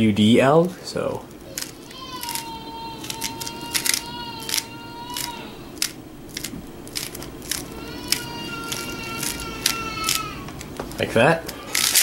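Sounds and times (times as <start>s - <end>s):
puzzle cube plastic clicks: 1.6s - 12.0s.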